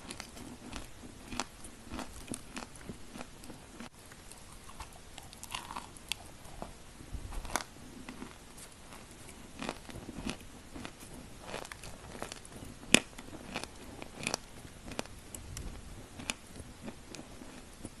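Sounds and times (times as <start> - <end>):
person chewing crunchy chalk: 0.0 - 6.7, 7.4 - 18.0.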